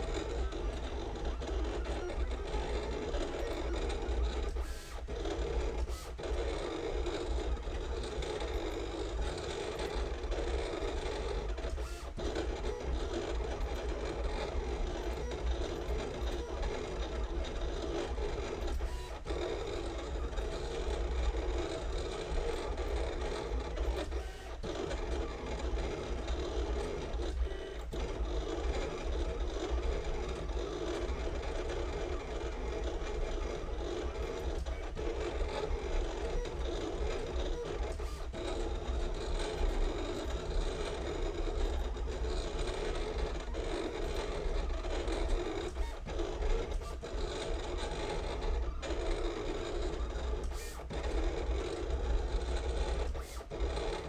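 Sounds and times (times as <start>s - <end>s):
vinyl cutter motors whirring: 0.0s - 54.0s.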